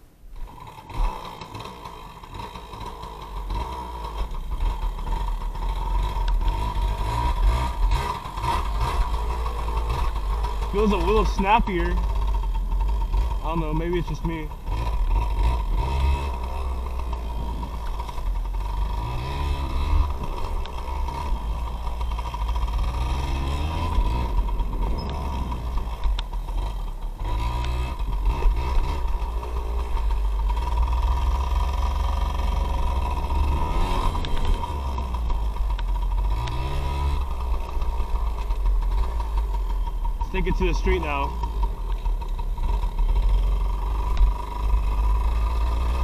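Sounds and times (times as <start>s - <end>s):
two-stroke motorbike engine revving: 0.4s - 46.0s.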